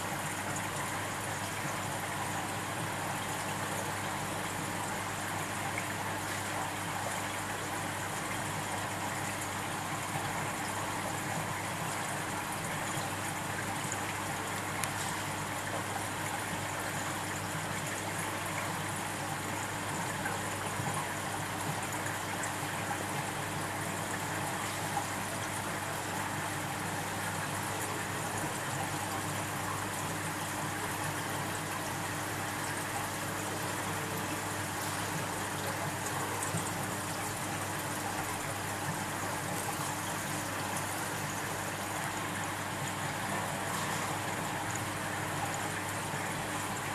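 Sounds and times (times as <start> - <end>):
trickling water: 0.0 - 46.9.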